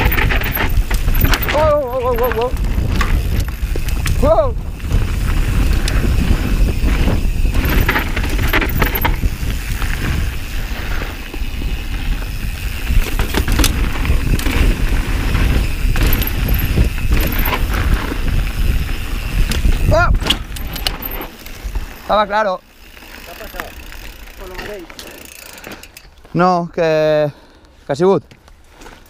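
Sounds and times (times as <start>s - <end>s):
bike chain and frame clattering: 0.0s - 26.4s
rumble of wind and tyres: 0.0s - 26.4s.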